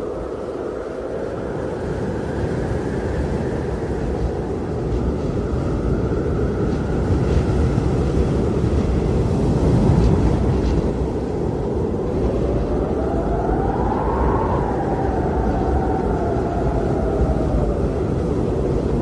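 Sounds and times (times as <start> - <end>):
blizzard wind blowing hard: 0.0 - 19.0
howling wind whistle: 0.0 - 19.0.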